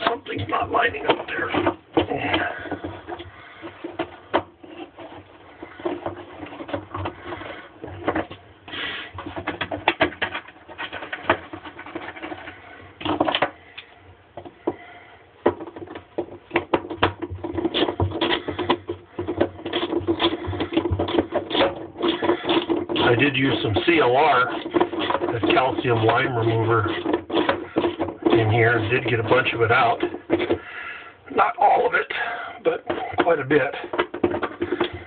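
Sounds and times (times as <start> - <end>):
hard plastic parts clicking: 0.0 - 35.0.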